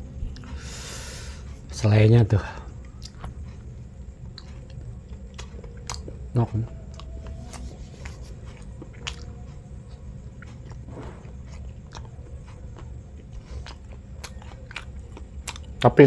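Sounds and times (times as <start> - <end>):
low steady hum: 0.0 - 16.0
man chewing: 0.1 - 1.8, 2.6 - 16.0.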